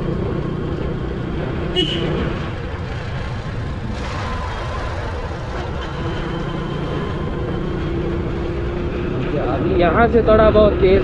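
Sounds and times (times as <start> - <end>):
wind and road rumble: 0.0 - 11.0.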